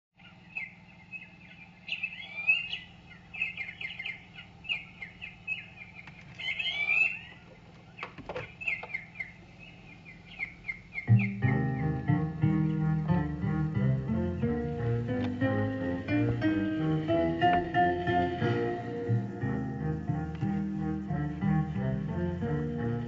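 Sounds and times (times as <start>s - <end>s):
faint low hum: 0.2s - 23.0s
songbirds chirping and twittering: 0.2s - 23.0s.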